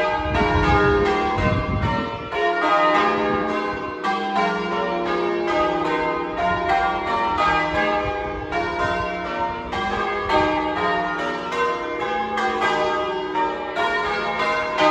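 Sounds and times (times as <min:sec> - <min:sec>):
church bells change ringing: 0:00.0 - 0:14.9.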